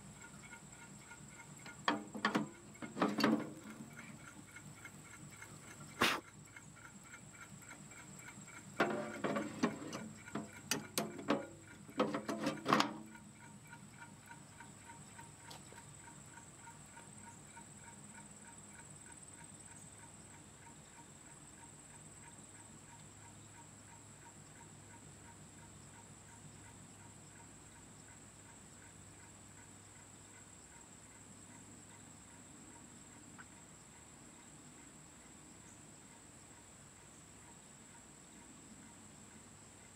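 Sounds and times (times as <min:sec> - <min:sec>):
hot air fan engine ticking: 0:00.0 - 0:39.9.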